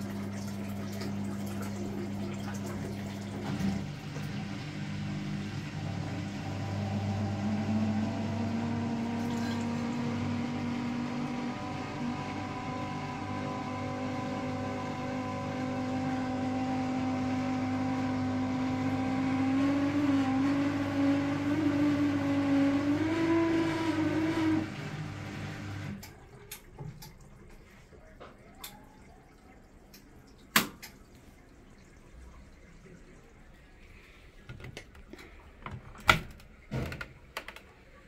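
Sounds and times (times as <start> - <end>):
drain pump humming: 0.0 - 38.0
water draining: 0.0 - 38.0.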